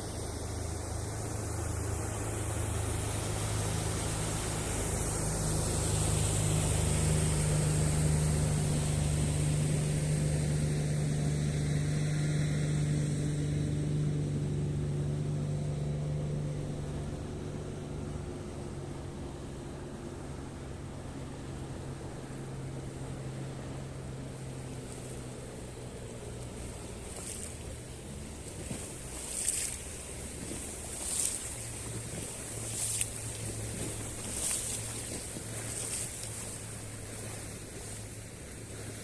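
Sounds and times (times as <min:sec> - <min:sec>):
passing engine hum: 0:00.0 - 0:39.0.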